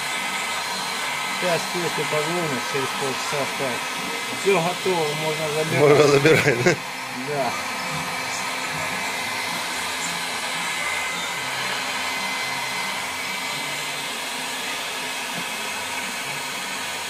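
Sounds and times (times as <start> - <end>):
heat gun blowing hot air: 0.0 - 17.0.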